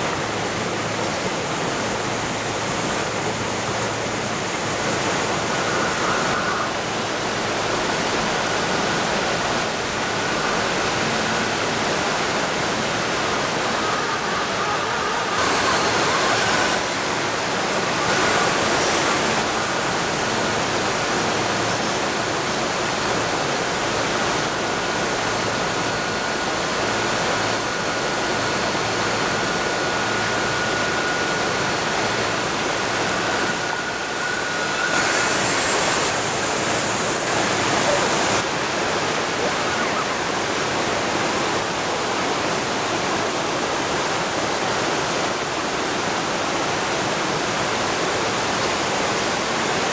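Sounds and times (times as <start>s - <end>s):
river water rushing over rocks: 0.0s - 49.9s.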